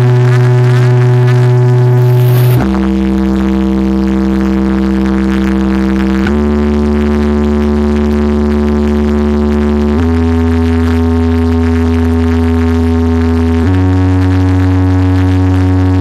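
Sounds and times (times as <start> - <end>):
loud synth bass tones: 0.0 - 16.0.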